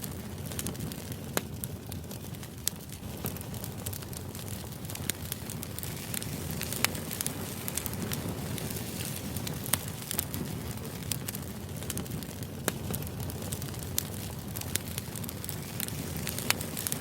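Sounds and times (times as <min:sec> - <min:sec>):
crackling fire: 0:00.0 - 0:17.0.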